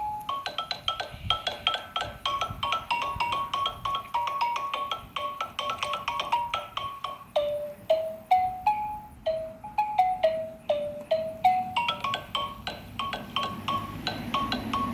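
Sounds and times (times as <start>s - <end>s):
xylophone notes: 0.0s - 14.9s.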